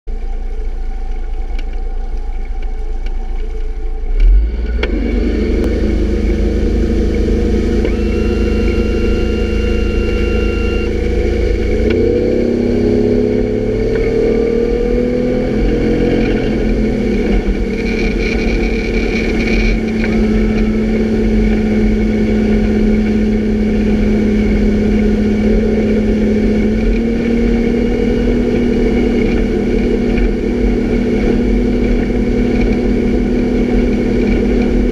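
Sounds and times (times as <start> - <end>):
motorboat engine revving: 0.2 - 34.9.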